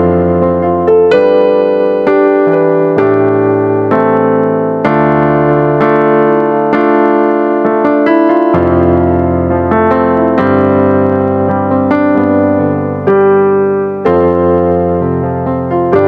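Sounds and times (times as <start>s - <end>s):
piano playing sustained chords: 0.0s - 16.0s.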